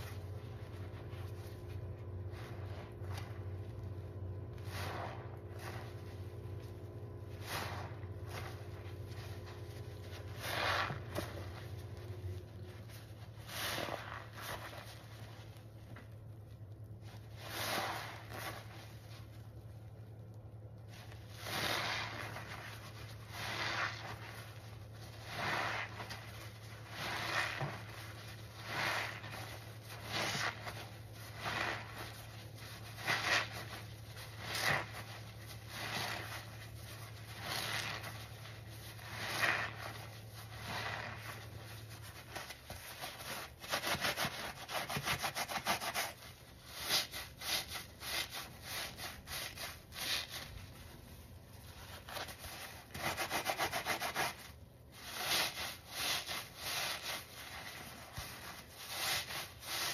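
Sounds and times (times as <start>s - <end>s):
sponge squeezed with suds: 0.0s - 59.9s.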